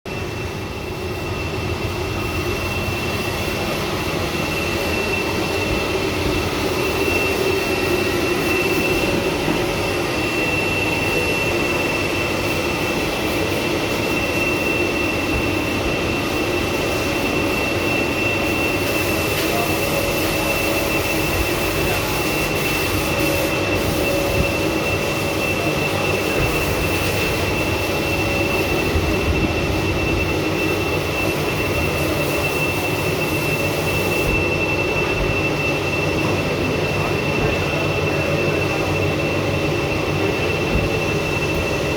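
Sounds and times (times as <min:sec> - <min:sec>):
car wash machinery running: 0:00.1 - 0:41.9.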